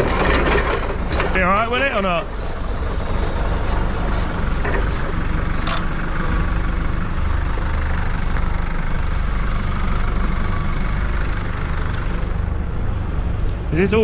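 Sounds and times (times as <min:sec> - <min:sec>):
farm vehicle engine idling: 0:00.0 - 0:14.0.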